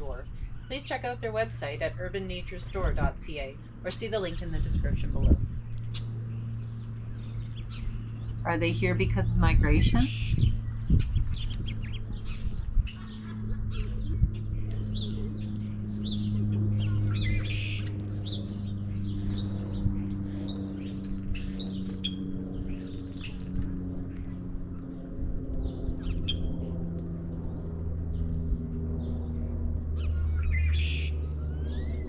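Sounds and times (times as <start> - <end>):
birds chirping: 0.0 - 32.0
low hum: 0.0 - 32.0.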